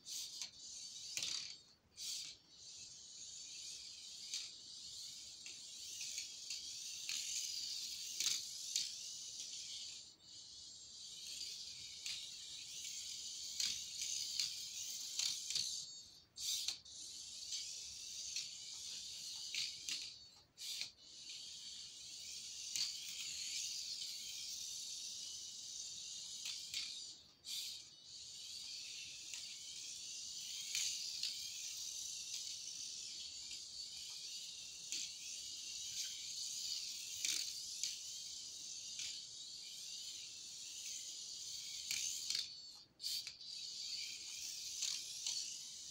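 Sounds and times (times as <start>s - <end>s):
toy car motor whining: 0.0s - 45.9s.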